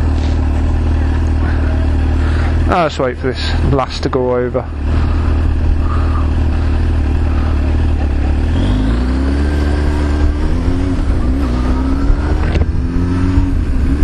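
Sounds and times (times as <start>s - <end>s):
vehicle engine accelerating: 0.0s - 14.0s.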